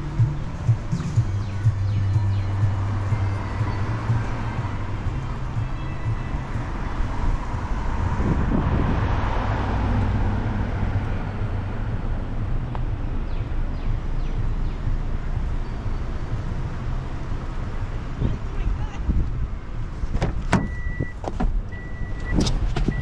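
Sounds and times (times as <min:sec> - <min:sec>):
car engine: 0:00.0 - 0:23.0
road rumble: 0:00.0 - 0:23.0.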